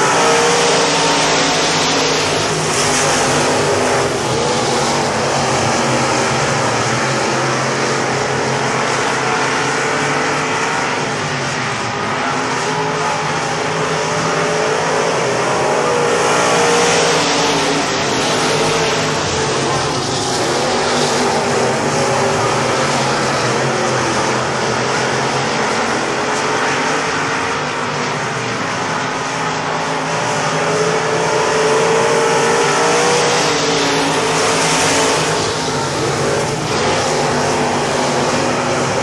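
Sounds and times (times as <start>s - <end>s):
race car engines passing: 0.0s - 39.0s.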